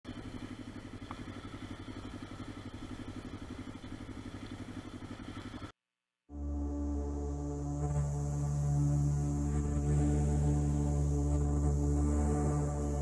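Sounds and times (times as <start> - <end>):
motorcycle engine idling: 0.0 - 5.8, 6.4 - 13.0.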